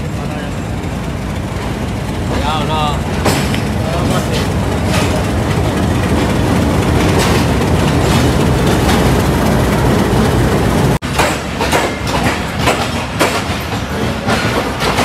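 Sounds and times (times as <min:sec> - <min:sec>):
diesel locomotive passing: 0:00.0 - 0:15.0
wheels clacking over rail joints: 0:00.0 - 0:15.0.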